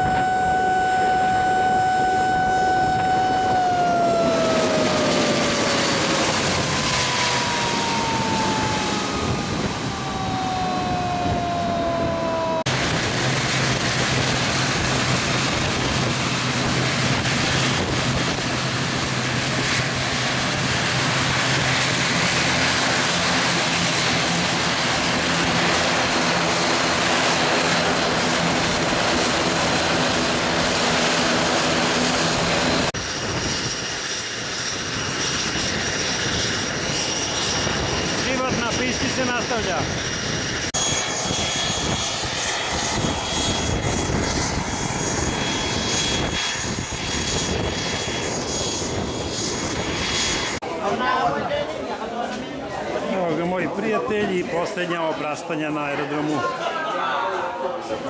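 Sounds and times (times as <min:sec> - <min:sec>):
turbine whine falling in pitch: 0:00.0 - 0:50.6
propeller engines droning: 0:00.0 - 0:58.0.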